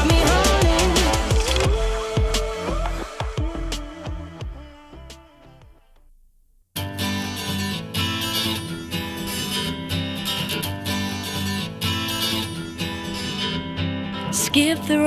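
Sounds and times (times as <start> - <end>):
acoustic guitar strumming: 0.0 - 5.9, 6.8 - 15.0.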